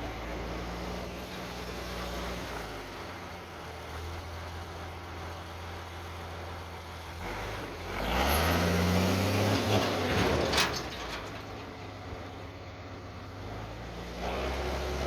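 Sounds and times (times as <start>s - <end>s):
diesel truck engine revving: 0.0s - 11.0s, 12.9s - 15.0s.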